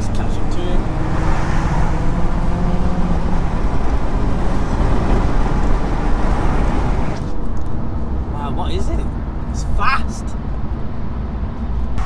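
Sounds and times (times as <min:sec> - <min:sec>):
car engine drone: 0:00.0 - 0:12.0
tyre and road noise: 0:00.0 - 0:12.0.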